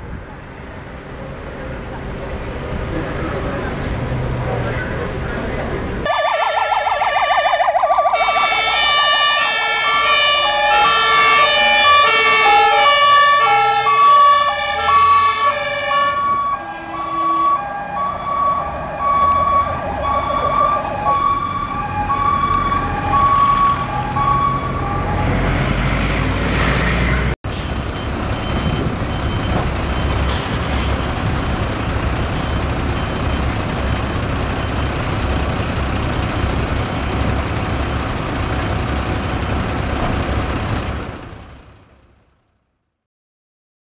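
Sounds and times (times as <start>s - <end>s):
fire truck engine running: 0.0s - 25.5s, 27.5s - 43.0s
fire engine sirens: 4.4s - 42.1s.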